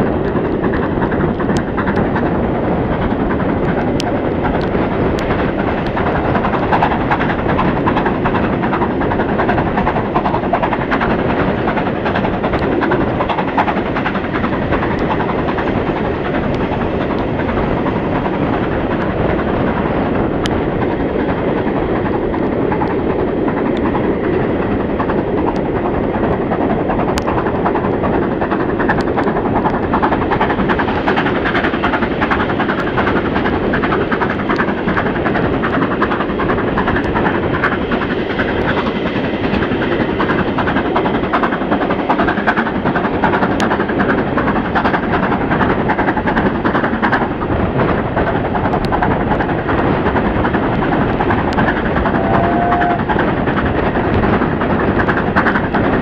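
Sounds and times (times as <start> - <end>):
steam locomotive roar: 0.0 - 56.0.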